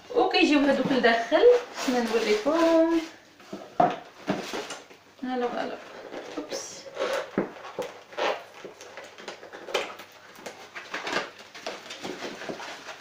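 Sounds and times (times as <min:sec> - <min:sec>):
paper packaging rustling: 0:00.7 - 0:13.0.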